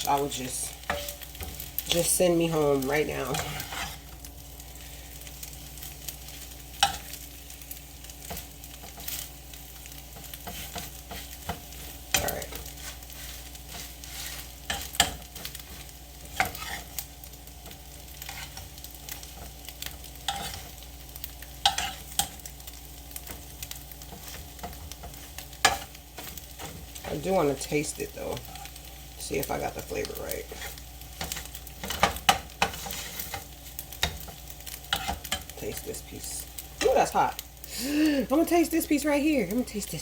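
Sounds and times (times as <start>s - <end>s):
spatula scraping pan: 0.0s - 7.3s, 8.1s - 37.4s
eggs sizzling in skillet: 0.0s - 40.0s.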